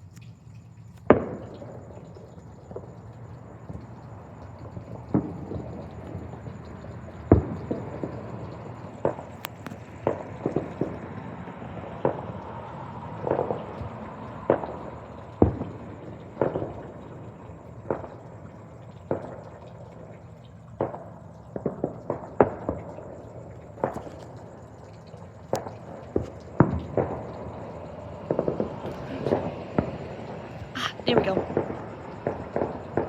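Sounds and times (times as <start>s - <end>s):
background hum: 0.0s - 33.0s
distant fireworks banging: 0.0s - 33.0s.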